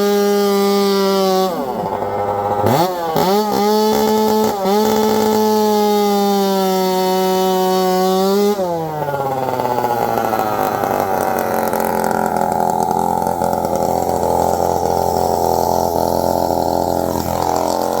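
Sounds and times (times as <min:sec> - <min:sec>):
chainsaw cutting tire: 0:00.0 - 0:18.0.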